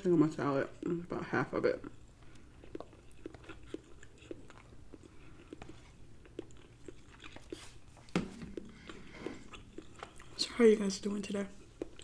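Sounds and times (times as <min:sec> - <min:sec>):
chewing with wet mouth clicks: 0:00.4 - 0:12.0.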